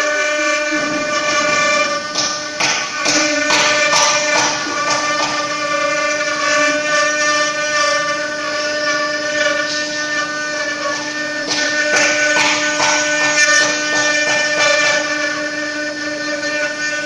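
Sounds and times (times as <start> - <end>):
bit cutting wood: 0.0 - 17.0
router spindle whining: 0.0 - 17.0.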